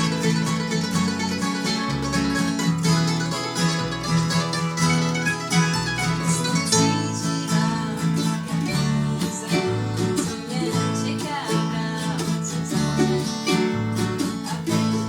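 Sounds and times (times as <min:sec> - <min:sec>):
bass line: 0:00.0 - 0:15.0
bluegrass string music: 0:00.0 - 0:15.0.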